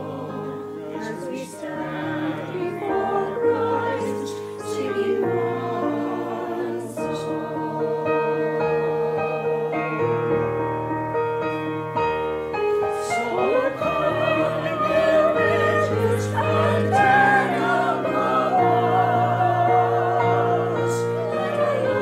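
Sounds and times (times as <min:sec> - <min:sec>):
voices singing with vibrato: 0:00.0 - 0:10.6, 0:12.5 - 0:22.0
held accompaniment chords: 0:00.0 - 0:22.0.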